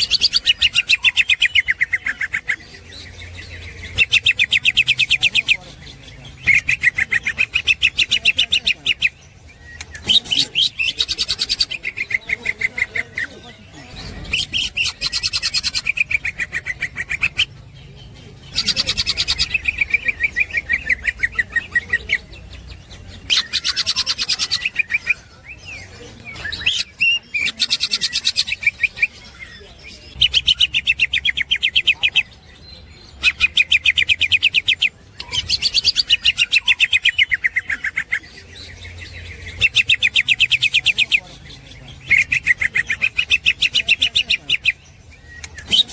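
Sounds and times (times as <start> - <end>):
bird fast chattering song: 0.0 - 45.9.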